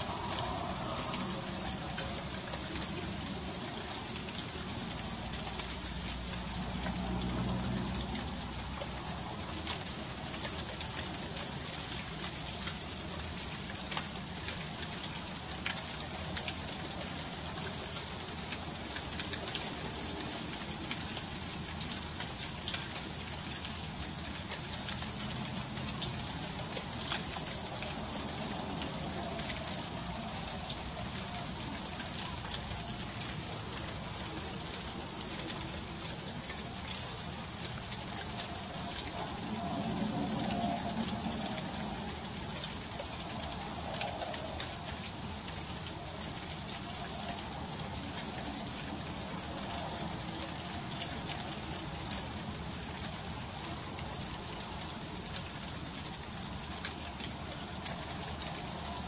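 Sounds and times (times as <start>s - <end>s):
freezing rain hissing: 0.0s - 59.0s.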